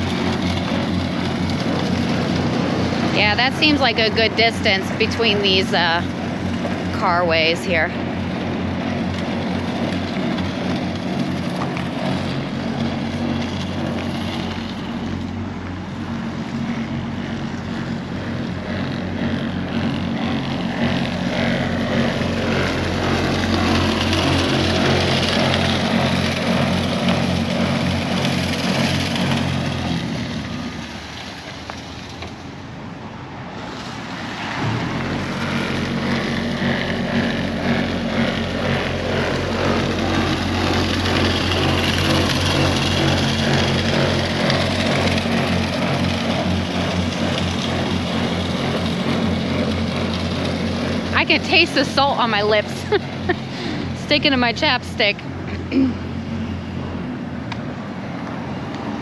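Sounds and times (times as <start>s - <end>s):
salt spreader hissing: 0.0s - 32.2s, 33.7s - 56.5s
truck engine running: 0.0s - 59.0s.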